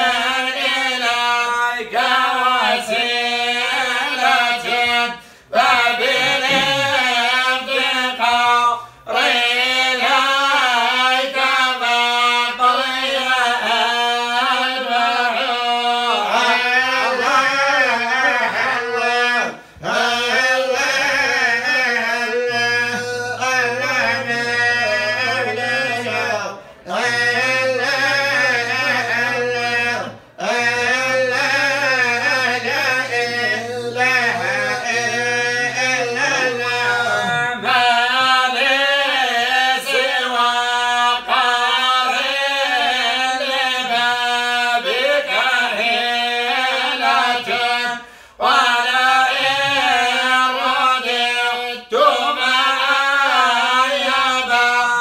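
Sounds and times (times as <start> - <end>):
man chanting religious recitation: 0.0 - 55.0.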